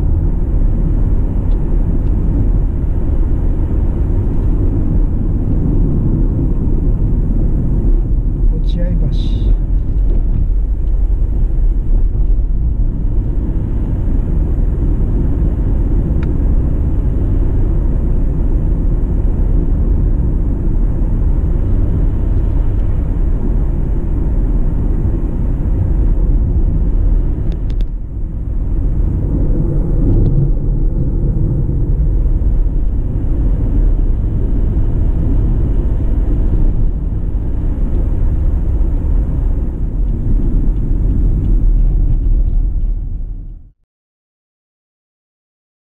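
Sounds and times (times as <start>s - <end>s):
car engine and tyre rumble: 0.0s - 43.8s.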